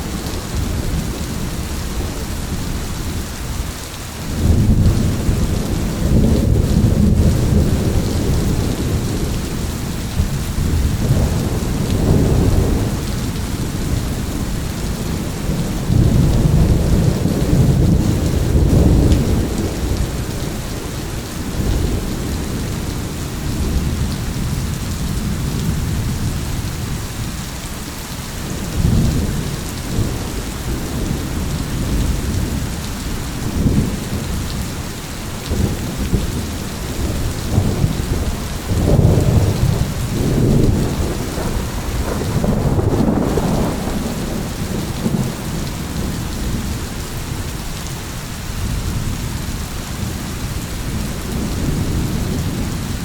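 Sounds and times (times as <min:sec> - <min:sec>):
steady rain falling: 0:00.0 - 0:53.0
rolling thunder rumbles: 0:04.2 - 0:27.4, 0:28.4 - 0:48.0, 0:48.6 - 0:53.0.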